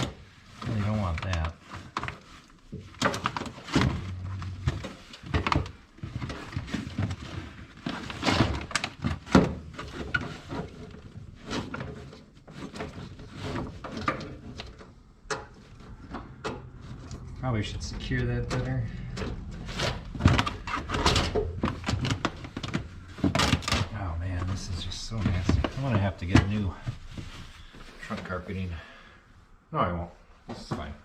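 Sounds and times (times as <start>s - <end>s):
things knocking and clunking: 0.0s - 28.9s
rustling: 0.0s - 29.5s.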